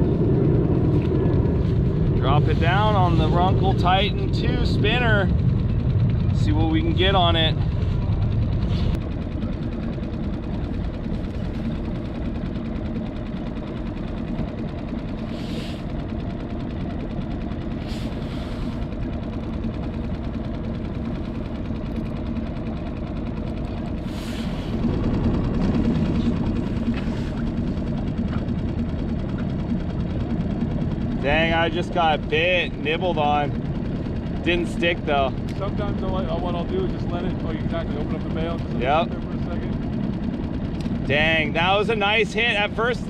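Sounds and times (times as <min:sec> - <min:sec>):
low motor hum: 0:00.0 - 0:43.0.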